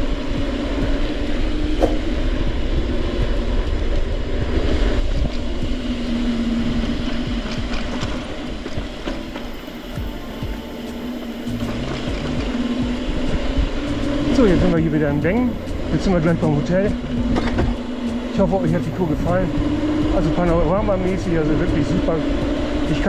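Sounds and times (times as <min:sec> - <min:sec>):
bike tyre rumble: 0:00.0 - 0:23.0
steady low hum: 0:00.0 - 0:23.0
wind buffeting microphone: 0:00.0 - 0:23.0.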